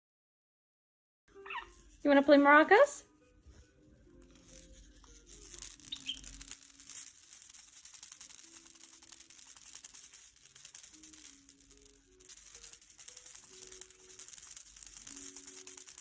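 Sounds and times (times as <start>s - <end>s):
maracas rattling: 1.3s - 16.0s.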